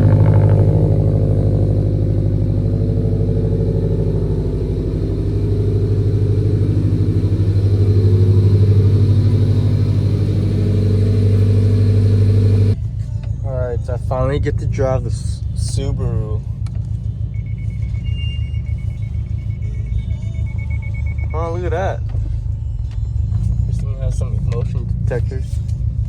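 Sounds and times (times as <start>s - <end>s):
car engine and exhaust droning: 0.0s - 26.0s.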